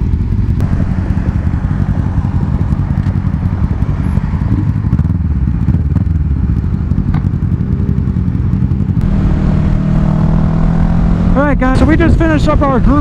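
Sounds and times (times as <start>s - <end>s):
wind buffeting microphone: 0.0s - 6.8s, 8.9s - 13.0s
motorcycle engine running: 0.0s - 13.0s.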